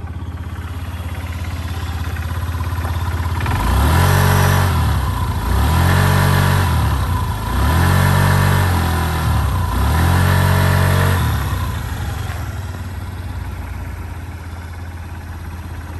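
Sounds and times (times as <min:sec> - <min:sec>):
scooter engine revving and idling: 0:00.0 - 0:15.9.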